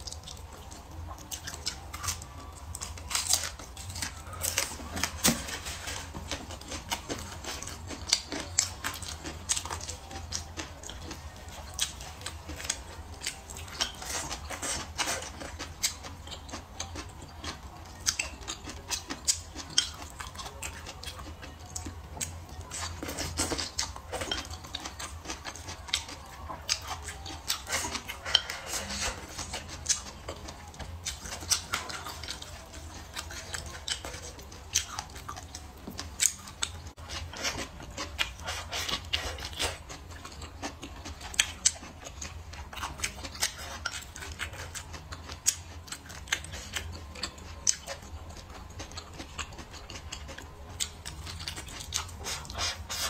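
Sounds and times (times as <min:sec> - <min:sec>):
wet chewing and mouth smacks: 0:00.0 - 0:53.0.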